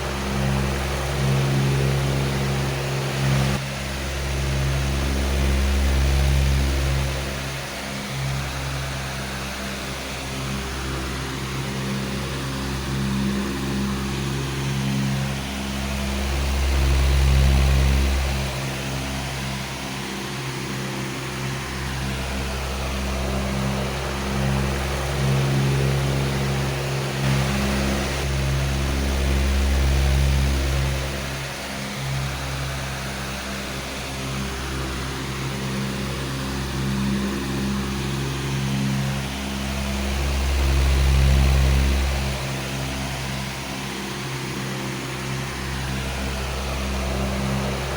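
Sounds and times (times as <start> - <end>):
electric fan motor hum: 0.0 - 47.9
rush of air from fan: 0.0 - 47.9.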